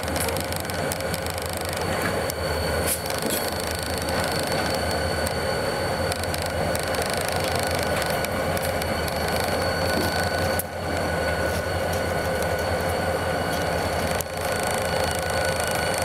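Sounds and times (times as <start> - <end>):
high whine: 0.0 - 16.0
locomotive engine drone: 0.0 - 16.0.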